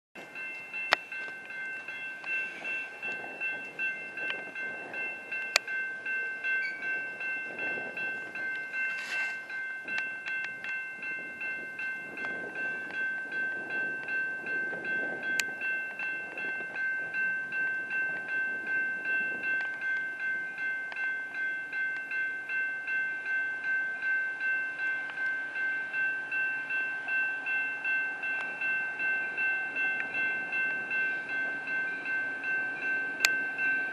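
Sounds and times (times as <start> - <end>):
crossing warning bell ringing: 0.2 - 33.9
low rumble of approaching train: 0.2 - 33.9.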